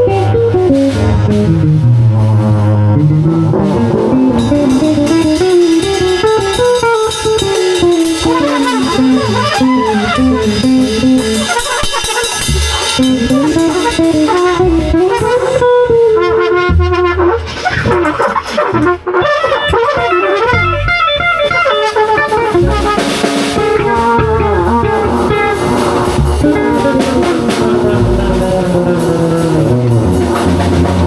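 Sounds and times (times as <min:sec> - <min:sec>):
bass notes: 0:00.0 - 0:31.0
drum kit: 0:00.0 - 0:31.0
guitar: 0:00.0 - 0:31.0
winding lead melody: 0:03.0 - 0:17.0, 0:17.6 - 0:30.9.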